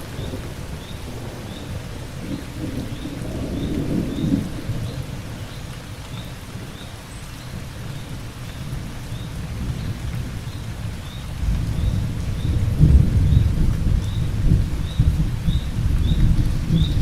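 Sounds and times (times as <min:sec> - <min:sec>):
thunder rumbling: 0:00.0 - 0:06.8, 0:08.7 - 0:17.0
heavy rain: 0:00.0 - 0:17.0.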